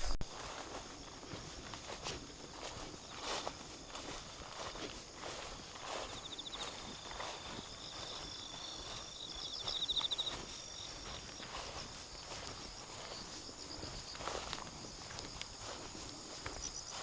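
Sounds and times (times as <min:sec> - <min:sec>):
crickets trilling: 0:00.0 - 0:17.0
faint footsteps: 0:00.0 - 0:17.0.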